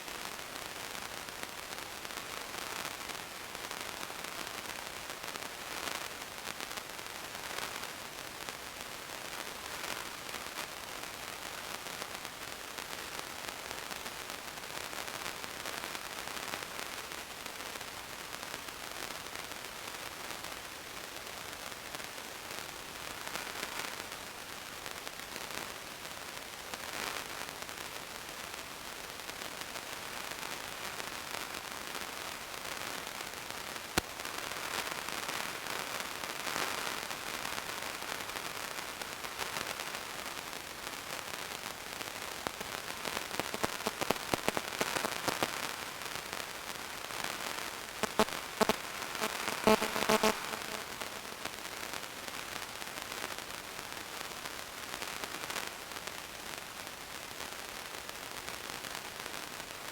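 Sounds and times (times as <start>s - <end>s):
static hiss with crackling: 0.0s - 59.9s.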